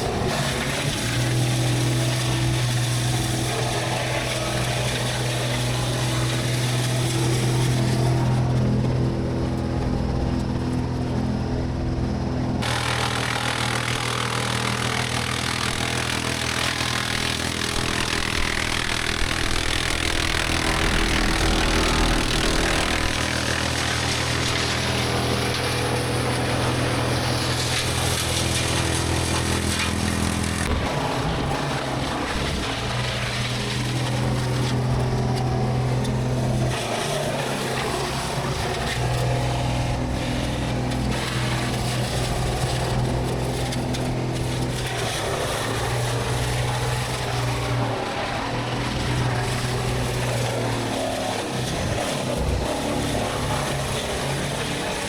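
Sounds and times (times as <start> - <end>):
machine engine running: 0.0 - 55.0.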